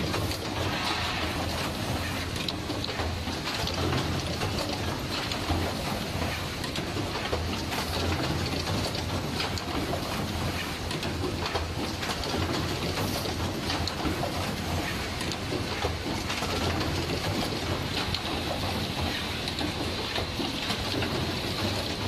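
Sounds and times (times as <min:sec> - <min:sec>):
machine clicking and knocking: 0:00.0 - 0:22.0.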